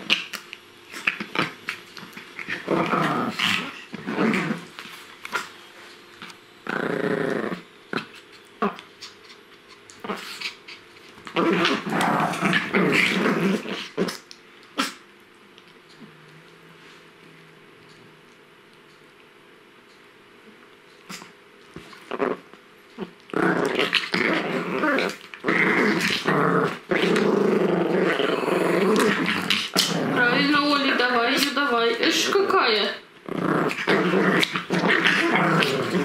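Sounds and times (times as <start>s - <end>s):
dogs growling and play-fighting: 0.0s - 17.0s, 21.0s - 36.0s.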